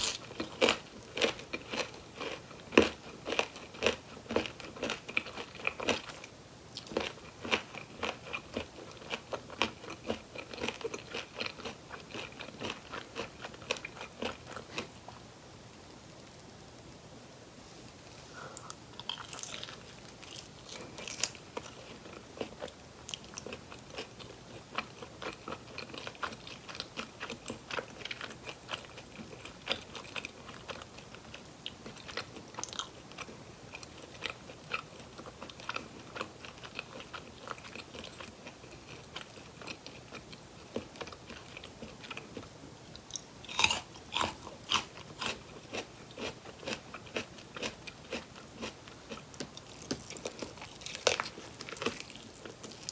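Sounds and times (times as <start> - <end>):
chewing crunchy fried chicken: 0.0 - 15.3, 18.4 - 52.9.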